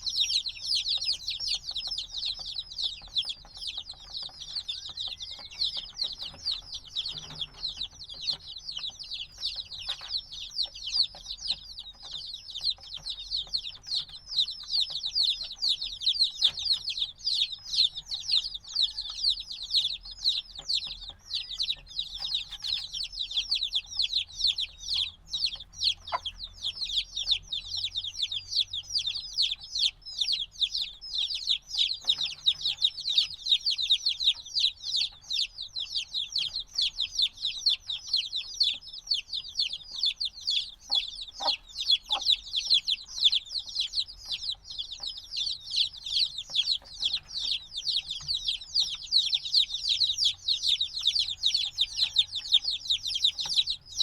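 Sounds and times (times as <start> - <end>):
baby chicks peeping: 0.0 - 54.0.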